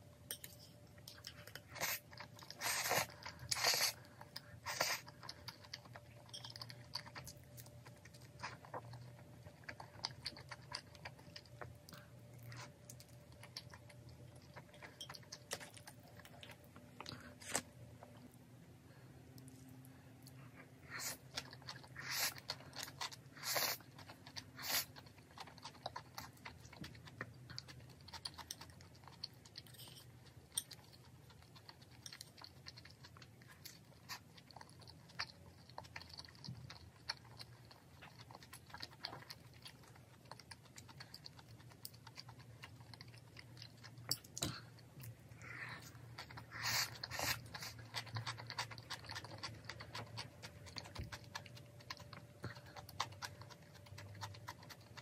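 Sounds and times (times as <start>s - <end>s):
chewing and slurping noodles: 0.7s - 18.2s, 19.4s - 55.0s.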